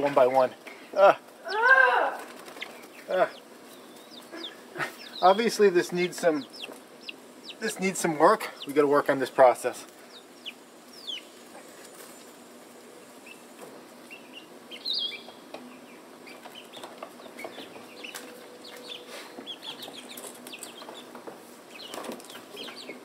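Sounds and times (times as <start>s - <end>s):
chickens clucking: 2.2s - 23.0s.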